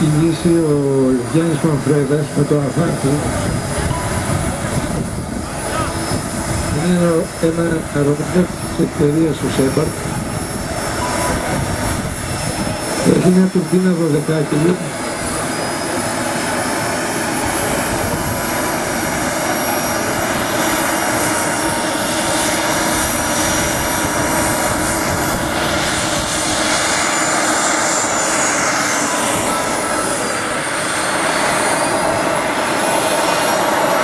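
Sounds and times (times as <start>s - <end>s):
model jet turbine roar: 0.0s - 34.0s
turbine high whine: 0.0s - 34.0s.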